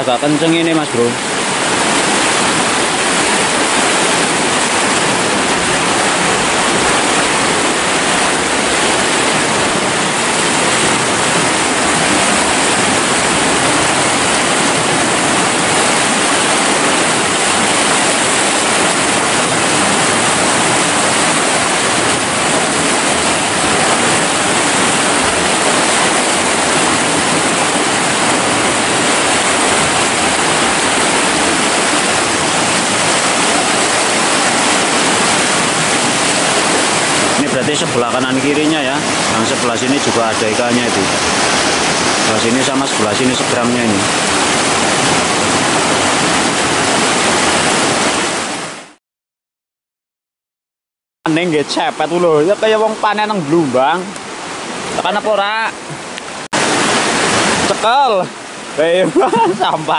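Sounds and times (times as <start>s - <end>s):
river water rushing: 0.0s - 49.0s, 51.3s - 59.9s.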